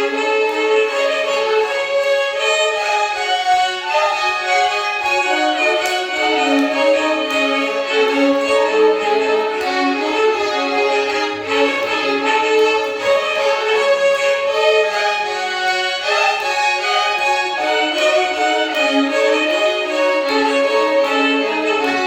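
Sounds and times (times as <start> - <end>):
violins playing a melody: 0.0 - 22.0.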